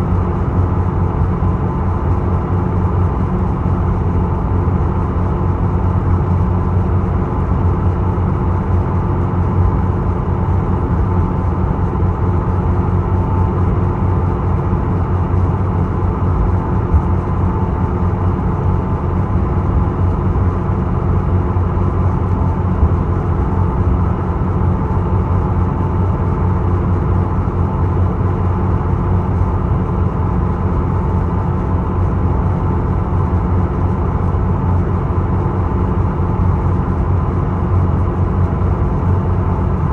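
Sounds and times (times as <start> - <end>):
ship engine drone: 0.0 - 39.9.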